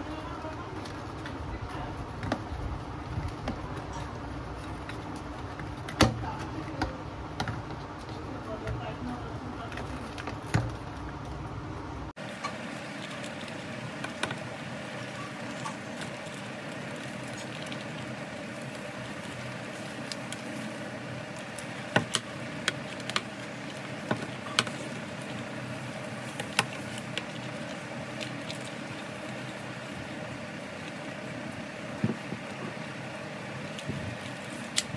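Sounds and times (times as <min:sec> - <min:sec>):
steady background noise: 0:00.0 - 0:34.9.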